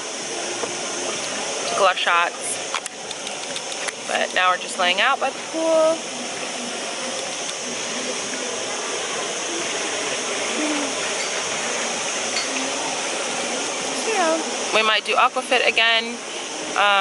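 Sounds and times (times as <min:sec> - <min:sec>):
rushing water hissing: 0:00.0 - 0:17.0.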